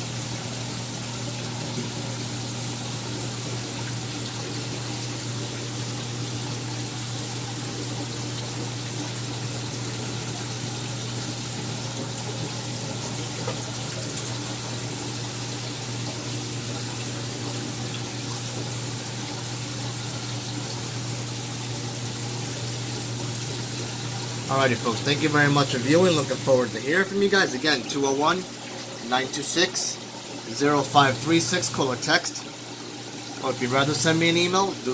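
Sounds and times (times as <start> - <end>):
electric pump hum: 0.0 - 34.9
rushing water: 0.0 - 34.9.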